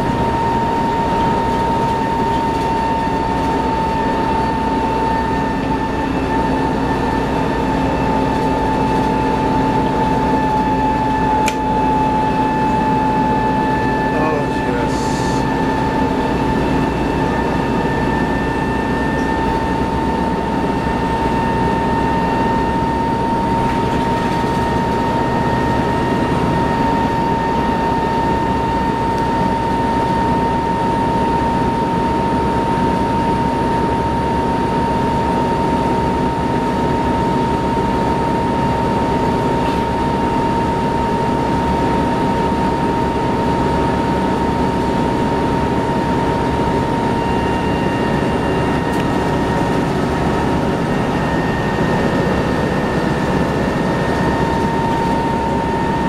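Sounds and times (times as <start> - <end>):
bus diesel engine rumbling: 0.0 - 56.0
steady high-pitched whine: 0.0 - 56.0.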